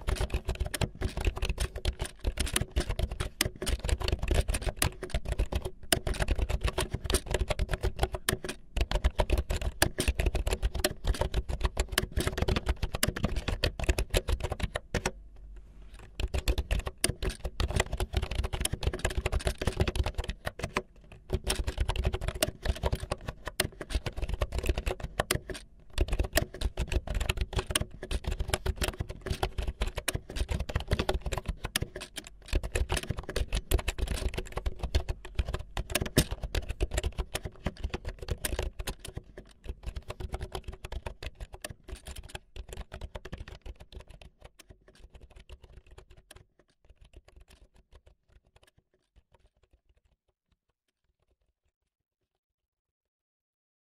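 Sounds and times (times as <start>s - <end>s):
fast irregular clicking and tapping: 0.0s - 15.2s, 15.9s - 51.8s.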